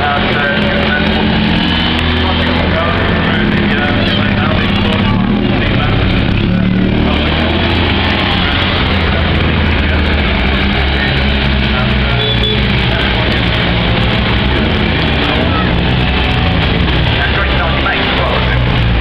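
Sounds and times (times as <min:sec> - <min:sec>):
car engines droning: 0:00.0 - 0:19.0
crowd noise: 0:00.0 - 0:19.0.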